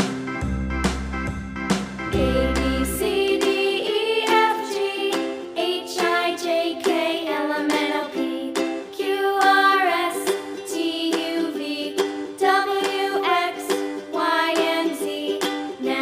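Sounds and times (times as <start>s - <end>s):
plucked-string accompaniment: 0.0s - 16.0s
sliding melody notes: 0.0s - 16.0s.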